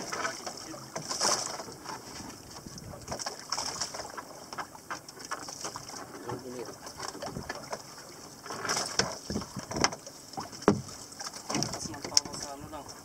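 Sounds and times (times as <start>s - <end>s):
water lapping against boat hull: 0.0s - 13.0s
wind and sea hiss: 0.0s - 13.0s.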